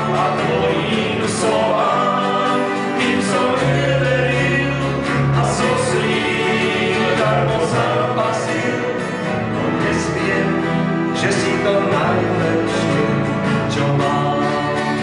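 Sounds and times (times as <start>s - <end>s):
gospel band playing: 0.0s - 15.0s
men singing in harmony: 0.0s - 15.0s.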